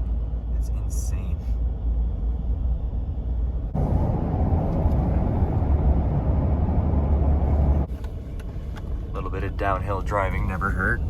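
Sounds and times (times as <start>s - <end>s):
truck engine and tyre rumble: 0.0s - 11.0s.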